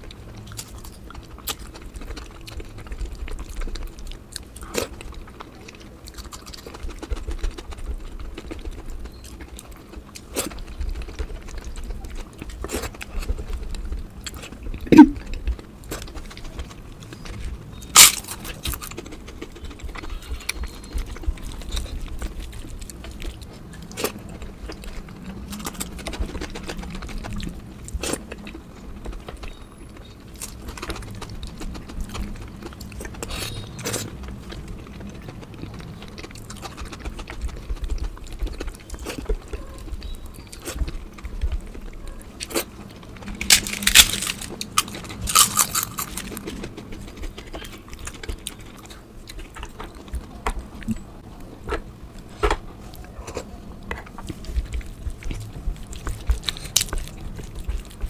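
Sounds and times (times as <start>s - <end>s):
chewing and lip smacks: 0.0s - 58.0s.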